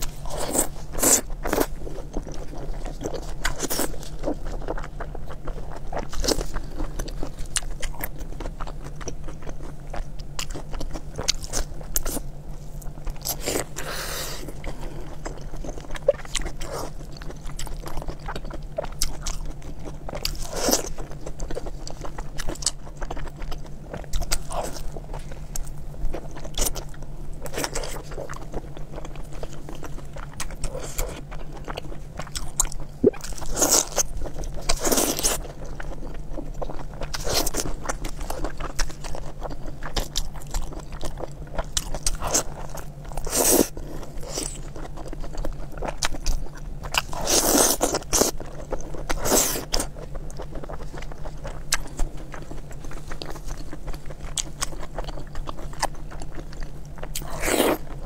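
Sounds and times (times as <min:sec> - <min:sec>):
person biting and chewing: 0:00.0 - 0:12.2, 0:13.1 - 0:58.0
faint low hum: 0:00.0 - 0:58.0.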